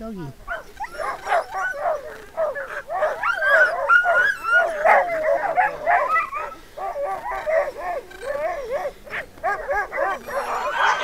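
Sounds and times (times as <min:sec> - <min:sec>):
sled dogs yipping and howling: 0:00.4 - 0:11.0.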